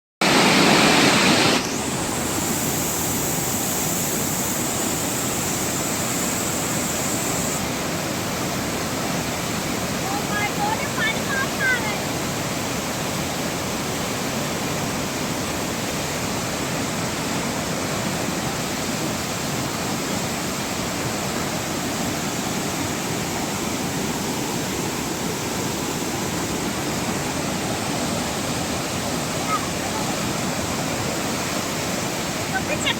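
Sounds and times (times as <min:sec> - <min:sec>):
water rushing from a dam: 0:00.2 - 0:32.9.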